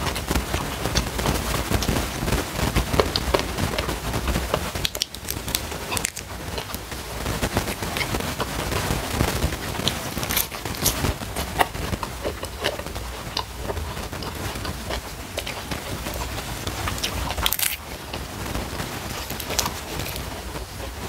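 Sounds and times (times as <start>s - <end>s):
crunching raw vegetables: 0.0s - 21.0s.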